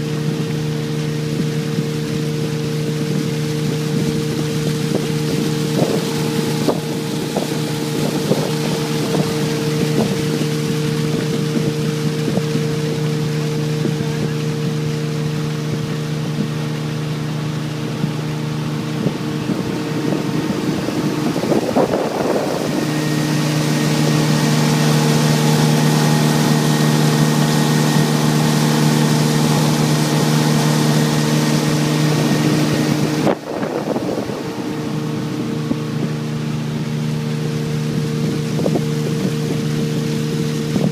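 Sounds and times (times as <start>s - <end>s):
motorboat engine running: 0.0s - 40.9s
rush of wind and water: 0.0s - 40.9s.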